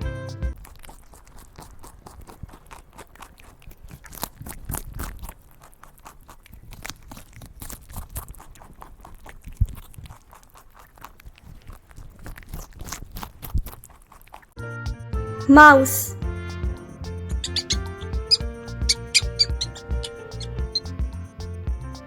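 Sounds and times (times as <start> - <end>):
rabbit chewing crunches: 0.5 - 14.6, 17.3 - 21.2.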